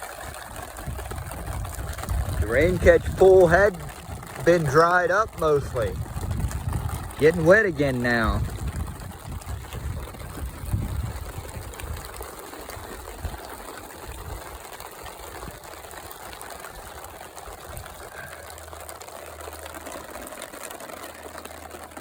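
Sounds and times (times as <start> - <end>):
rain drops pattering: 0.0 - 22.0.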